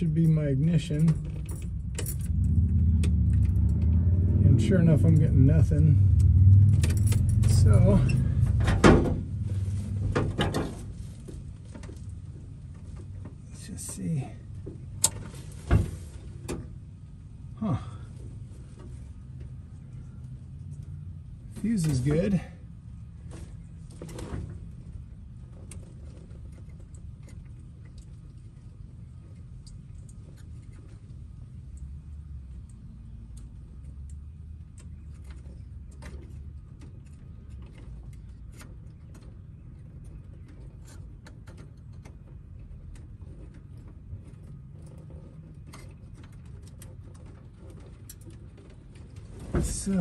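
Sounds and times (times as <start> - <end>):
low steady rumble: 0.0 - 50.0.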